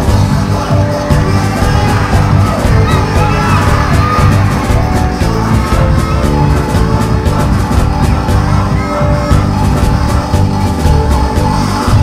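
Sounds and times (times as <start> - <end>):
crowd shouting: 0.0 - 12.0
music with heavy bass beat: 0.0 - 12.0.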